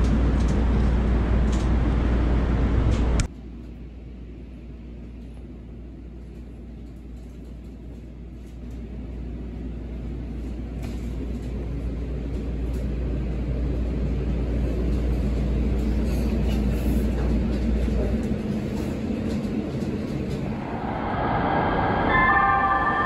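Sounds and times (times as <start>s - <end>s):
train rumbling inside car: 0.0s - 23.0s.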